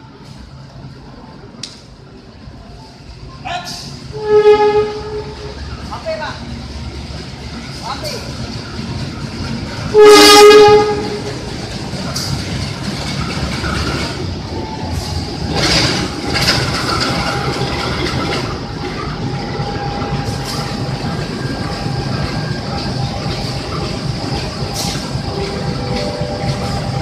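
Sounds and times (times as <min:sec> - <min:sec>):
locomotive engine rumbling: 0:00.0 - 0:27.0
train clanks: 0:03.5 - 0:27.0
wheel-on-rail noise: 0:04.2 - 0:27.0.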